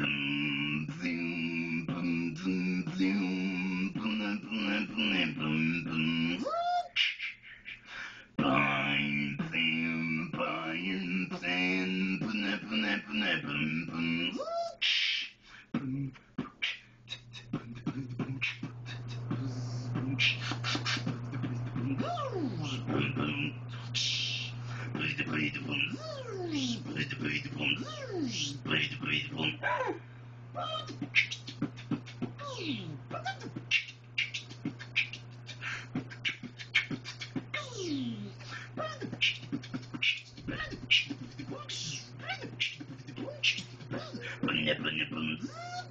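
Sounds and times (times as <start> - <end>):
man beatboxing: 0.0 - 7.5, 8.4 - 29.9, 30.6 - 45.9
steady low hum: 0.0 - 45.9.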